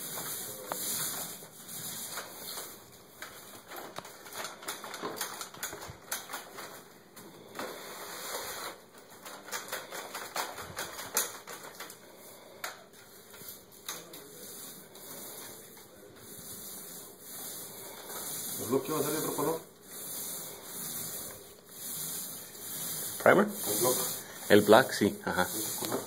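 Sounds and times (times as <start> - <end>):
paint roller on ceiling: 0.0 - 26.0.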